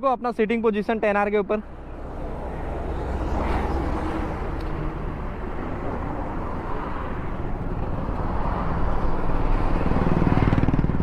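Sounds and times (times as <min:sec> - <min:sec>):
traffic: 0:00.0 - 0:11.0.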